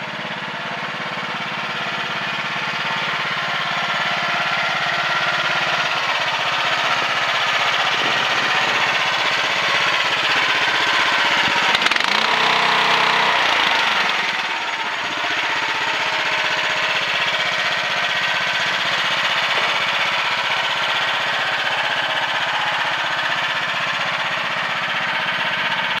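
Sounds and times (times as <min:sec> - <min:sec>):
mini excavator engine running: 0:00.0 - 0:26.0.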